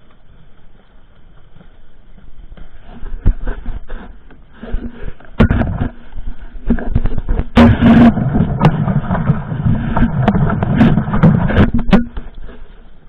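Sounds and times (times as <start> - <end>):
irregular knocks and clatter: 0.0 - 12.7.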